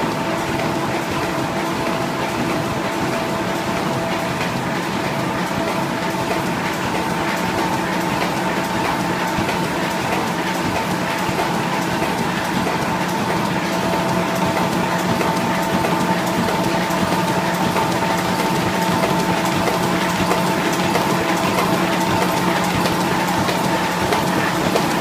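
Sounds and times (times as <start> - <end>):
machine clattering: 0.0 - 25.0.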